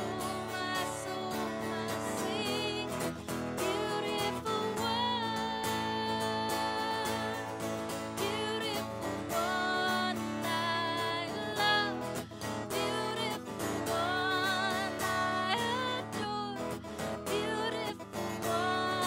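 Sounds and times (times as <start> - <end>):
acoustic guitar strumming: 0.0 - 19.0
woman singing: 0.0 - 19.0.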